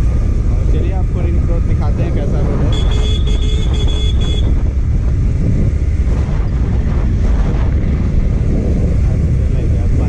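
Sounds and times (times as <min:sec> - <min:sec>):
motorcycle engine and road noise: 0:00.0 - 0:10.0
wind rumble on microphone: 0:00.0 - 0:10.0.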